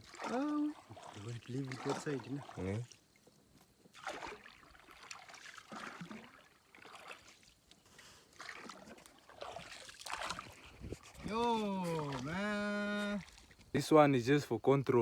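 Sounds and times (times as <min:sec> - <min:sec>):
canoe paddle strokes in water: 0:00.0 - 0:13.9
water trickling and splashing: 0:00.0 - 0:15.0.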